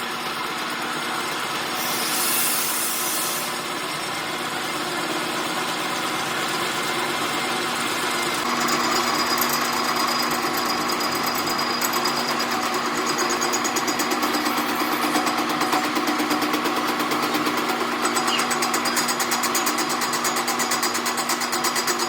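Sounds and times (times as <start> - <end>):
workshop machine running: 0.0 - 22.0
higher harsh machine sound: 0.9 - 22.0.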